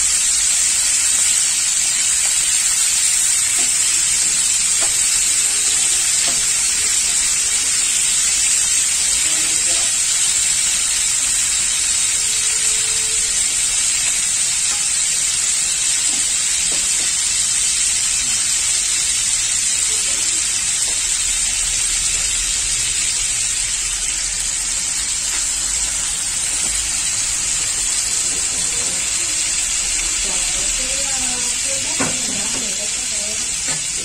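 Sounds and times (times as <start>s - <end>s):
fish sizzling in oil: 0.0s - 34.0s.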